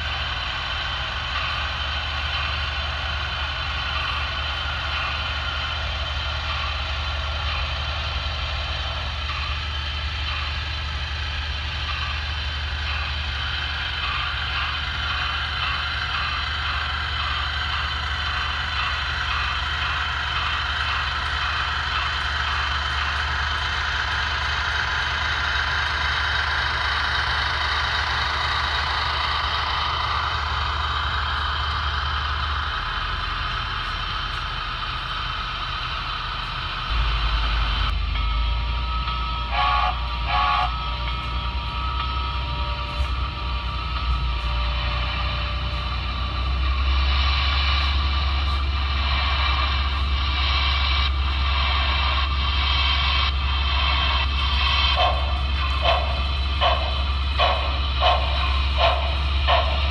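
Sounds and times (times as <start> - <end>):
model locomotive hum and hiss: 0.0 - 59.9
model train rolling past: 0.0 - 59.9.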